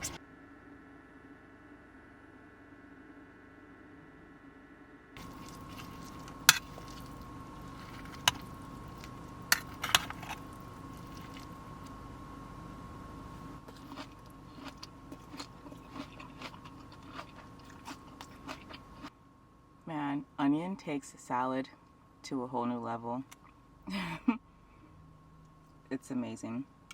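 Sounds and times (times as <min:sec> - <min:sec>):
steady faint hum: 0:00.0 - 0:26.9.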